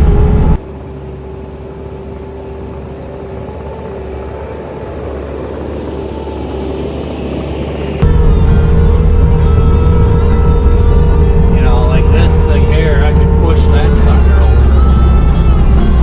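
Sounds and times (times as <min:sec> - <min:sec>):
loud engine noise: 0:00.0 - 0:16.0.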